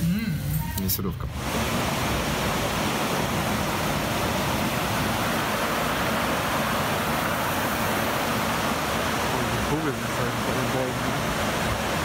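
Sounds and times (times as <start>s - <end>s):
water rushing through lock gates: 0.6s - 12.0s.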